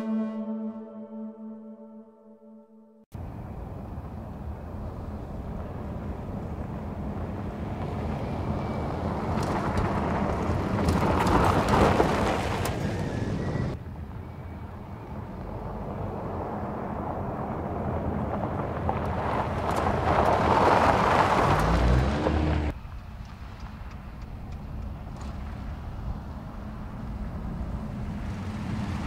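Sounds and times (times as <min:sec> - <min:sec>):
truck engine hum: 0:03.2 - 0:29.0
tyres on loose dirt: 0:03.9 - 0:29.0.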